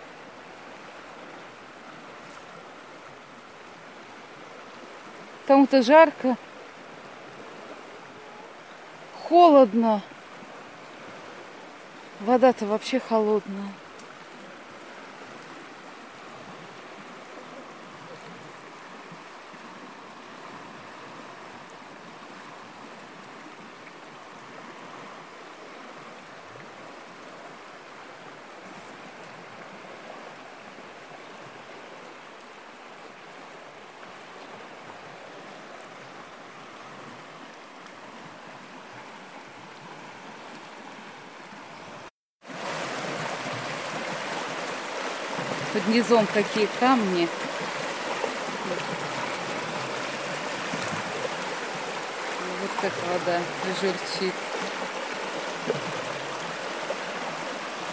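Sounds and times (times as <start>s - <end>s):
river rushing over stones: 0.0s - 57.9s.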